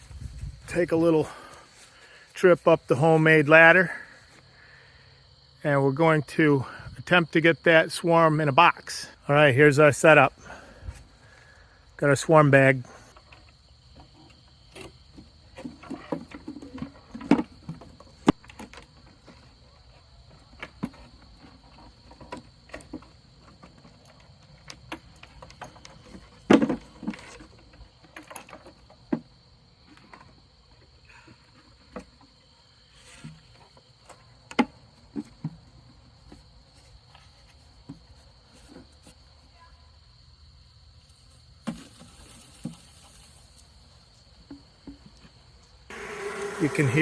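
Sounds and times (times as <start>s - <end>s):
high insect trill: 0.0s - 47.0s.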